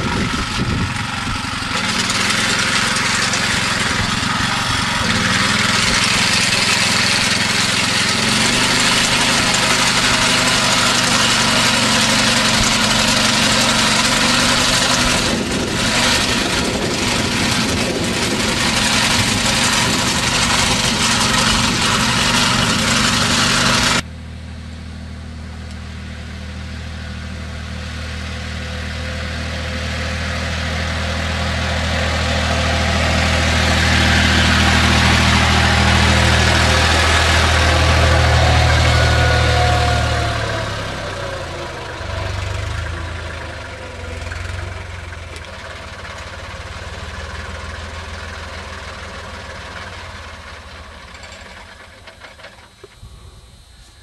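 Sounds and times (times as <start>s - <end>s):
mower engine running: 0.0s - 54.0s
tractor engine passing: 0.0s - 54.0s.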